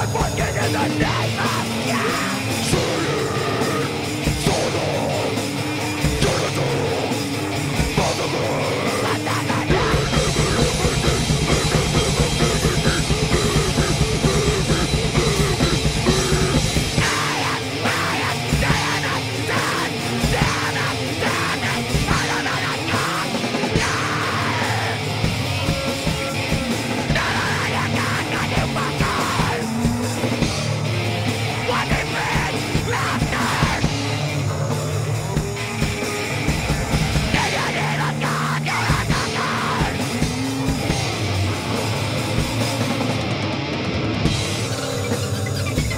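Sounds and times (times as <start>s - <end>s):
bass: 0.0s - 45.9s
distorted guitar: 0.0s - 45.9s
drums: 0.0s - 45.9s
yelled vocals: 0.0s - 45.9s.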